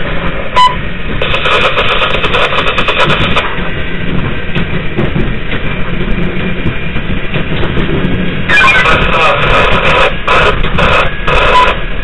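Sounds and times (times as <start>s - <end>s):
low motor hum: 0.0s - 12.0s
train wheels rumbling on rails: 0.0s - 12.0s.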